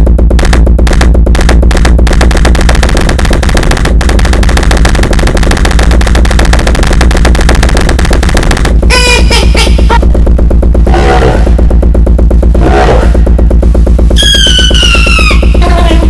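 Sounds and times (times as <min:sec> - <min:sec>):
harsh electronic noise music: 0:00.0 - 0:16.0.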